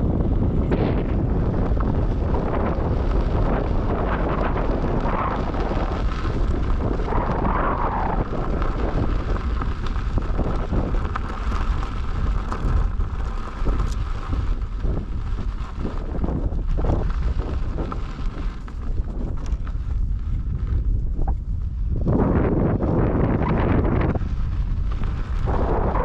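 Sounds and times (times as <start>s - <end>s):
small knocks from rough trail: 0.0s - 25.9s
wind buffeting microphone: 0.0s - 26.0s.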